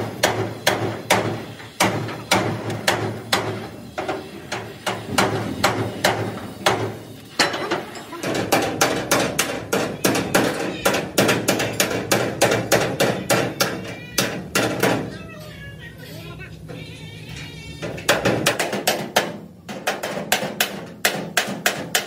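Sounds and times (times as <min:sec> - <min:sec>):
hammer striking metal: 0:00.2 - 0:15.1, 0:17.9 - 0:22.0.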